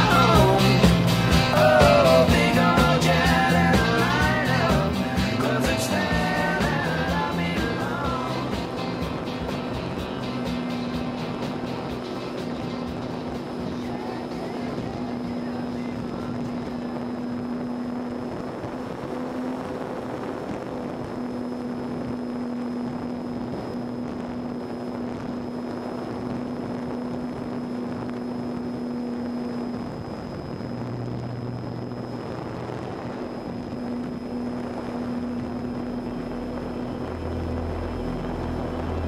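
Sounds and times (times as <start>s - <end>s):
wind rushing over microphone: 0.0s - 39.0s
electric motor and propeller running: 6.1s - 39.0s.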